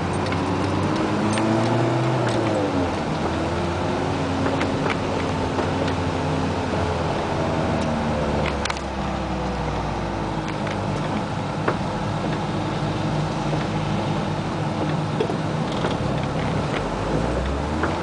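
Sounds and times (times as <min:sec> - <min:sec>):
engine heard from inside car: 0:00.0 - 0:18.0.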